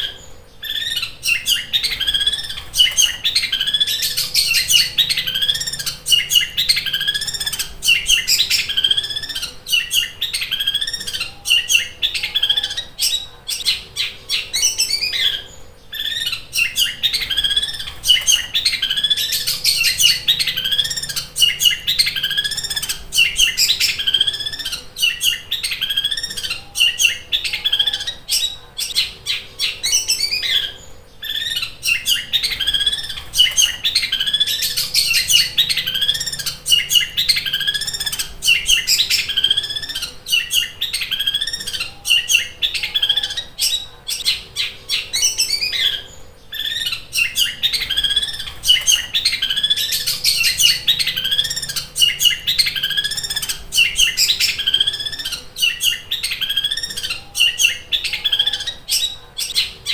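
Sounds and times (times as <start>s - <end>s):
shrike chattering song: 0.0s - 59.9s.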